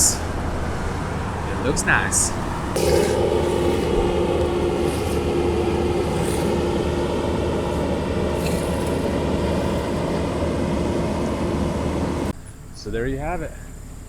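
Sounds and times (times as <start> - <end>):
construction machinery engines humming: 0.0 - 14.0.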